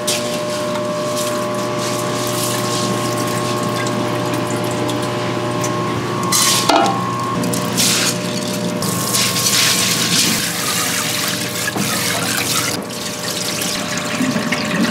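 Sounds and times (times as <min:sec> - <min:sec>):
machine hum: 0:00.0 - 0:14.9.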